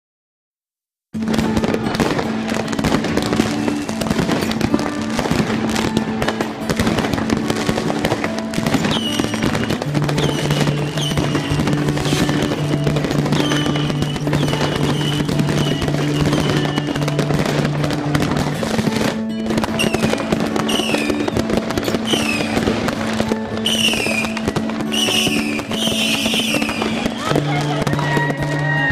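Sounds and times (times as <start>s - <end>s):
fireworks crackling and banging: 1.2s - 28.9s
whistling fireworks: 1.2s - 28.9s.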